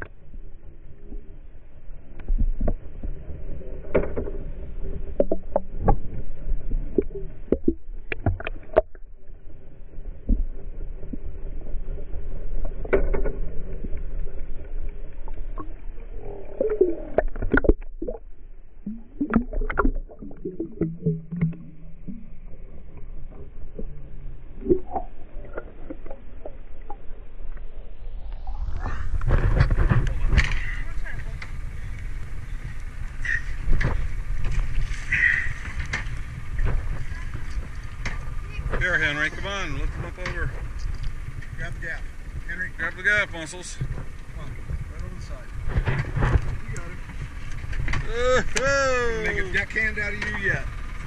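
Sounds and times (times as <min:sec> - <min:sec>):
water rushing underwater: 0:00.0 - 0:42.5
low steady rumble: 0:00.0 - 0:51.0.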